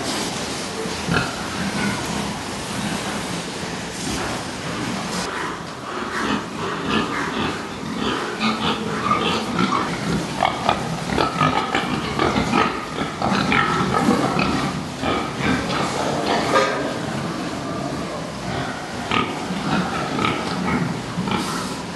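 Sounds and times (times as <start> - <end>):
background hiss: 0.0 - 21.9
pigs grunting: 1.0 - 21.9.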